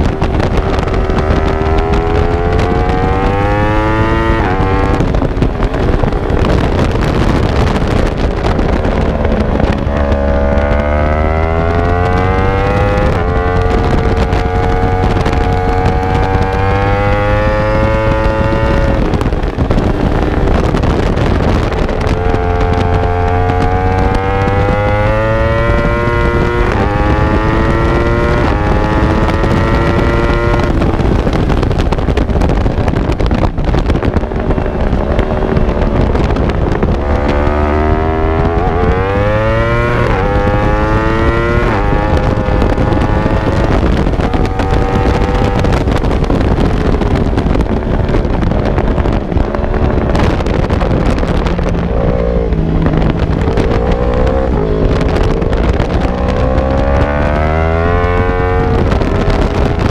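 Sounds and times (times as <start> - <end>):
motorcycle engine revving: 0.0 - 59.9
wind rushing over microphone: 0.0 - 59.9.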